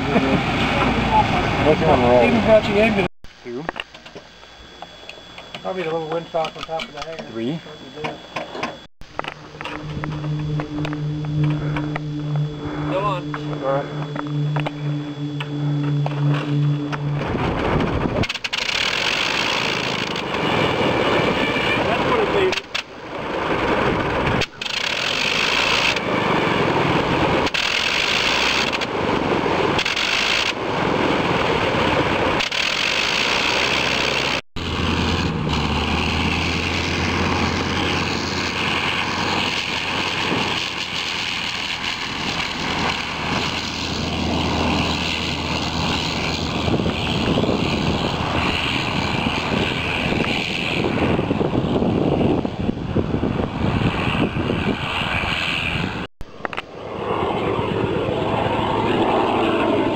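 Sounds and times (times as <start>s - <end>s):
rotary aircraft engine surging: 0.0s - 59.9s.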